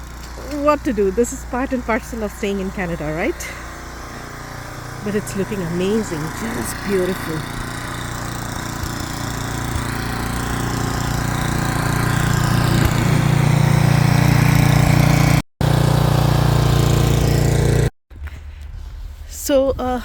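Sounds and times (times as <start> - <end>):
engine running: 0.0 - 17.9.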